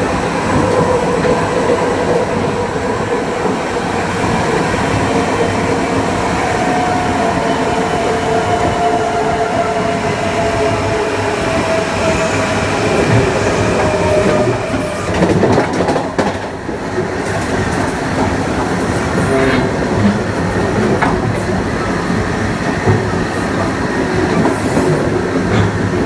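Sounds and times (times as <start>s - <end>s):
train wheels clattering over track: 0.0s - 26.0s.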